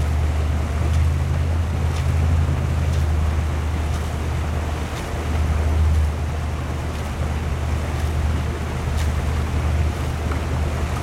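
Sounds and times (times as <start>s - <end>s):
paddles dipping into water: 0.0s - 11.0s
steady low rumble: 0.0s - 11.0s.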